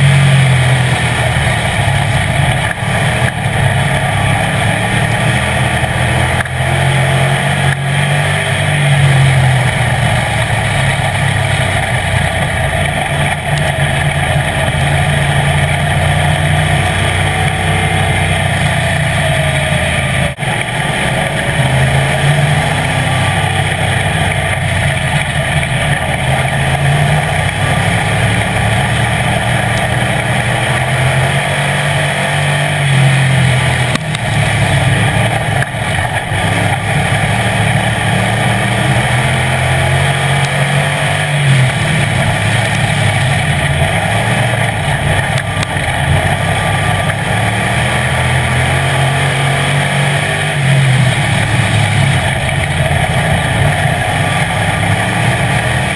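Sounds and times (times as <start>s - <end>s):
race car engine revving: 0.0s - 55.9s
wind and tyre noise: 0.0s - 55.9s.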